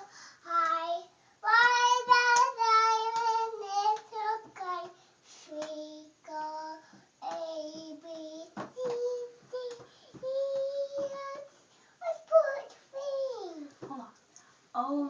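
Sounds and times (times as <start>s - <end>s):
child singing: 0.0s - 13.8s.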